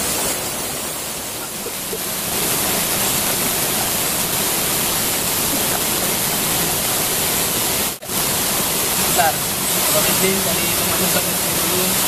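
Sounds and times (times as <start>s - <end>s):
waterfall pouring onto rocks: 0.0s - 12.0s.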